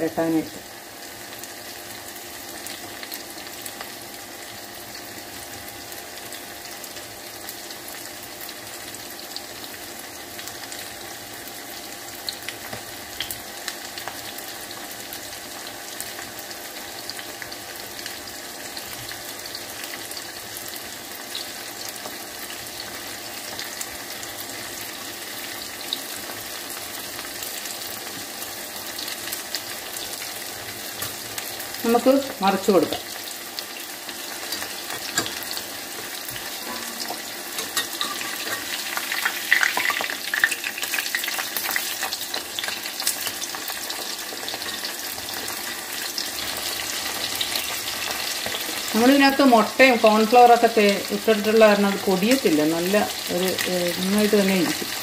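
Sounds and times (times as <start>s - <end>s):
deep-frying sizzle with pops: 0.0s - 55.0s.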